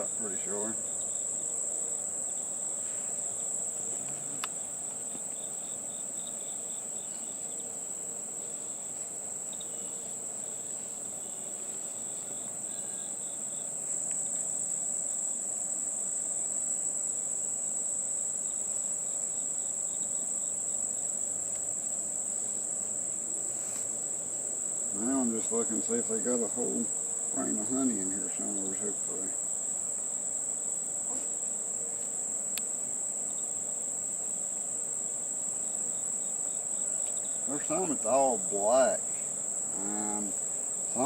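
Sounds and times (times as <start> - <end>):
high-pitched insect trill: 0.0 - 41.0
honeybees buzzing: 0.0 - 41.0.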